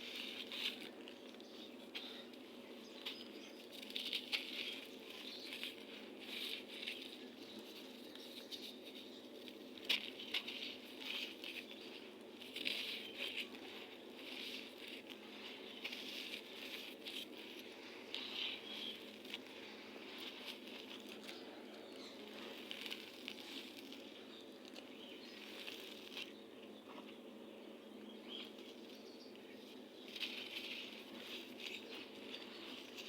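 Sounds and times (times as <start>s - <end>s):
sand crumbling gritty crackling: 0.0s - 26.5s, 28.2s - 33.0s
faint steady hum: 0.0s - 33.0s.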